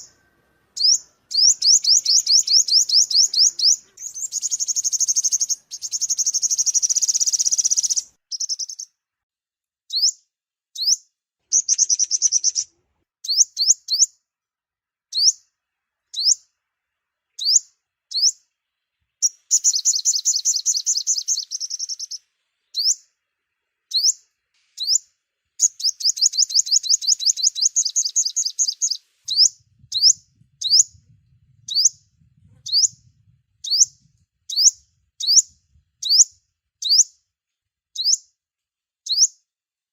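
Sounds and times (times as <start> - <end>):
sunbird chirping: 0.0 - 9.0, 10.8 - 14.2, 15.1 - 37.2, 38.0 - 38.2.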